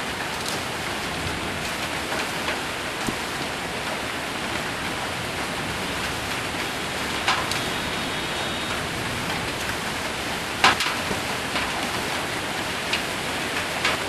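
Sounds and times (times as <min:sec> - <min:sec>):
rain and hail on a roof: 0:00.0 - 0:14.0.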